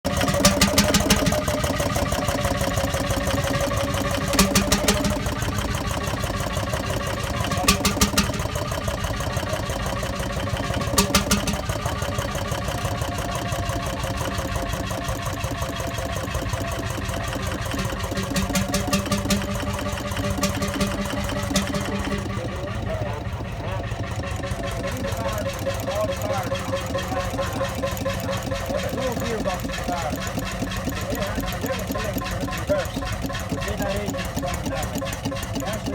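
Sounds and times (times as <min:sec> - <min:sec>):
stationary engine running: 0:00.0 - 0:35.9.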